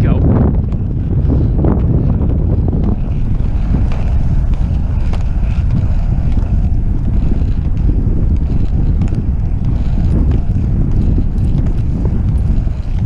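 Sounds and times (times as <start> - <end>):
rollerblade wheels on pavement: 0.0 - 13.0
wind buffeting microphone: 0.0 - 13.0.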